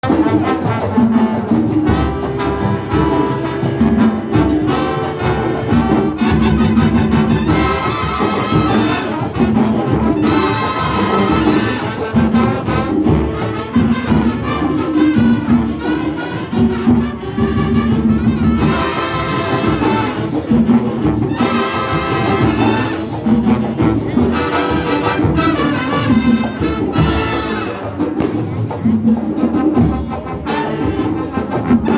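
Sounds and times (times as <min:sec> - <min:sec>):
marching band playing: 0:00.0 - 0:31.9
steady drum beat: 0:00.0 - 0:31.9
trumpets and trombones: 0:00.0 - 0:31.9.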